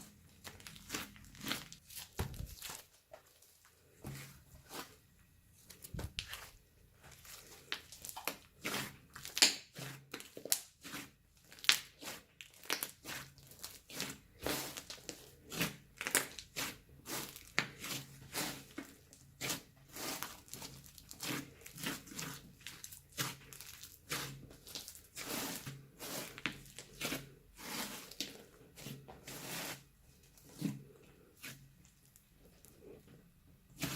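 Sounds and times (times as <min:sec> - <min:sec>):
slime squishing and crackling: 0:00.0 - 0:05.0, 0:05.6 - 0:33.0.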